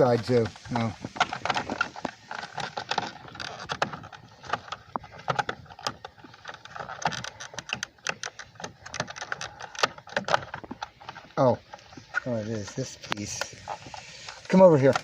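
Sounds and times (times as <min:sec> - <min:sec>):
plastic parts clicking and rattling: 0:00.0 - 0:15.0.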